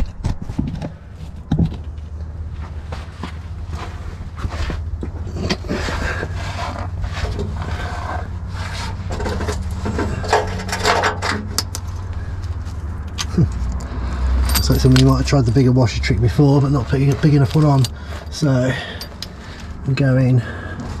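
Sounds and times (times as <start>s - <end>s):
steady low hum: 0.8s - 21.0s.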